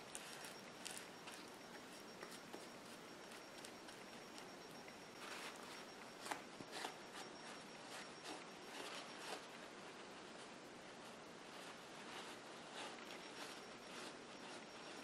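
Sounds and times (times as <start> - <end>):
paintbrush rubbing and dabbing: 0.0 - 10.4, 11.0 - 15.0.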